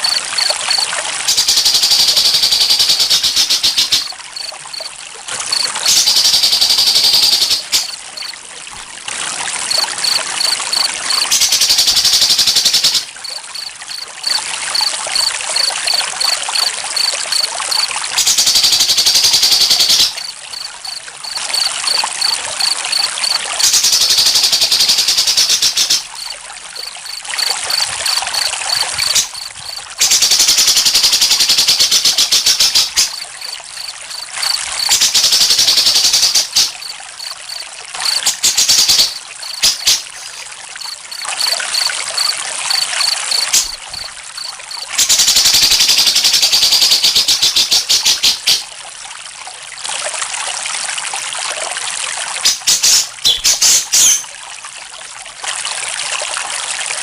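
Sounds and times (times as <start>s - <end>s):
crickets chirping: 0.0s - 48.6s
trickling water: 0.0s - 57.0s.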